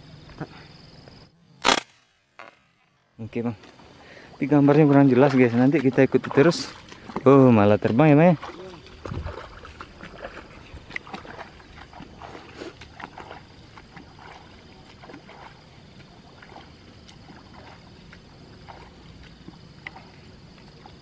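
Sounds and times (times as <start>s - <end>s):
footsteps splashing in water: 3.6s - 21.0s.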